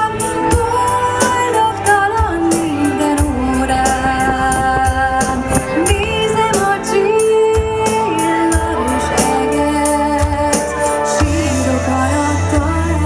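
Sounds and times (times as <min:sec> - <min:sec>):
live pop band playing: 0:00.0 - 0:13.0.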